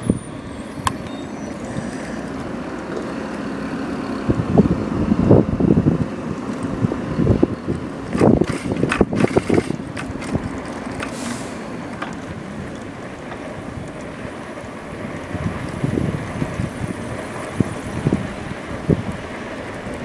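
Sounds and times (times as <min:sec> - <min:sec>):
road noise rush: 0:00.0 - 0:20.0
wind buffeting microphone: 0:00.0 - 0:20.0.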